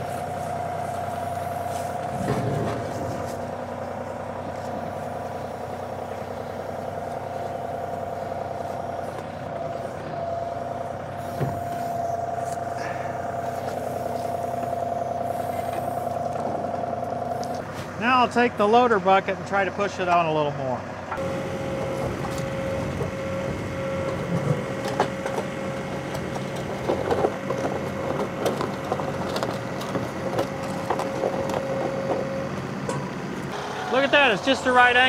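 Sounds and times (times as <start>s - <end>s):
engine whine: 0.0s - 35.0s
tractor diesel engine running: 0.0s - 35.0s.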